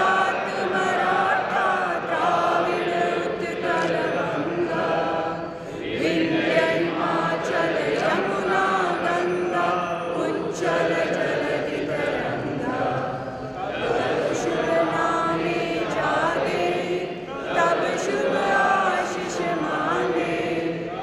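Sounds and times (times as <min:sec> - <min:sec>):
group singing in unison: 0:00.0 - 0:21.0.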